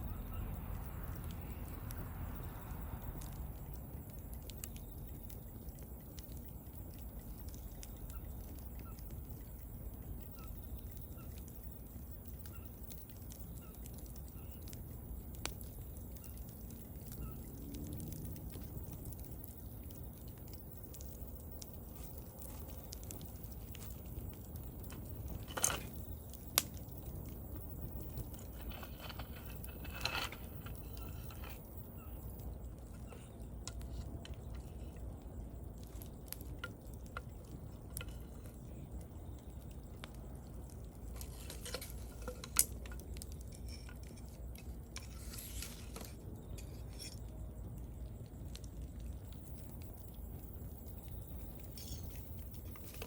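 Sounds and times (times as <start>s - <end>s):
fire hissing: 0.0s - 53.0s
fire rumble: 0.0s - 53.0s
wood fire crackling: 0.0s - 53.0s
wood fire popping: 0.0s - 53.0s.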